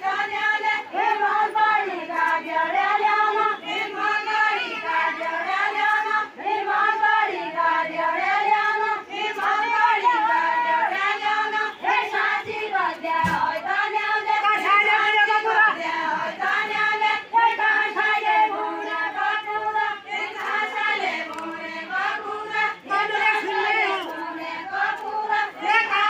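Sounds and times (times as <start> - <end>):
women singing together: 0.0 - 26.0.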